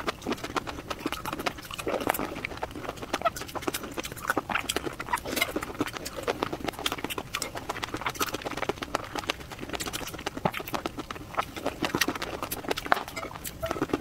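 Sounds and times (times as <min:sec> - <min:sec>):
wet chewing and lip-smacking: 0:00.0 - 0:14.0.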